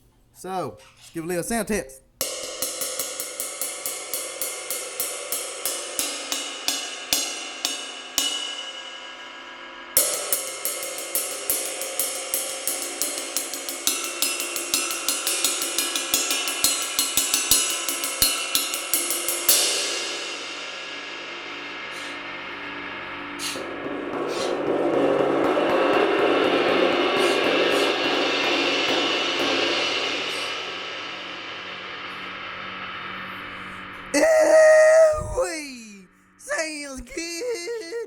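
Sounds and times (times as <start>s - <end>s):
ride cymbal played with a stick: 2.2s - 34.2s.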